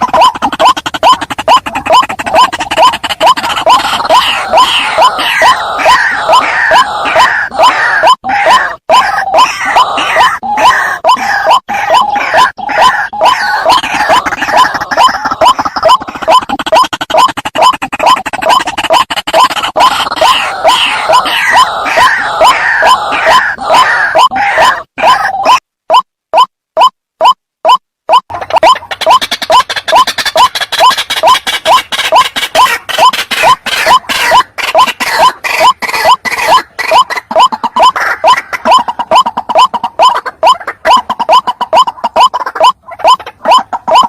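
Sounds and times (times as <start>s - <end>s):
higher bird calling: 0.0s - 26.0s, 28.3s - 44.0s
waterhen harsh calls: 0.0s - 44.0s.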